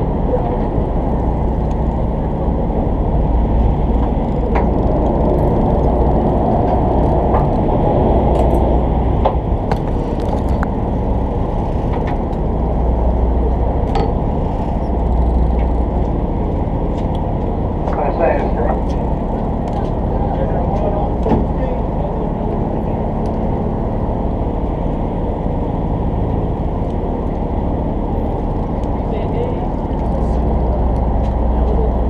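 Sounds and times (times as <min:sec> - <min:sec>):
boat engine idling: 0:00.0 - 0:32.0
water noise: 0:00.0 - 0:32.0
wind: 0:00.0 - 0:32.0.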